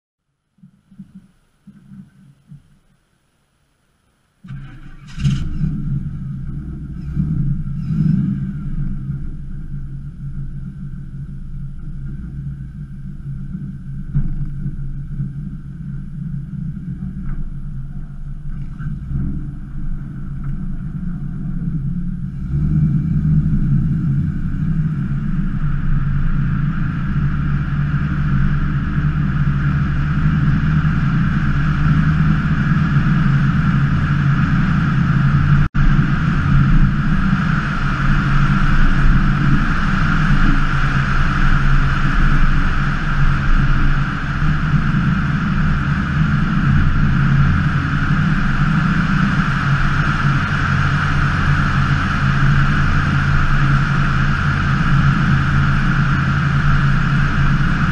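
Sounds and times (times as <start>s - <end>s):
road and wind noise: 0.2s - 57.9s
car engine starting and idling: 0.6s - 57.9s.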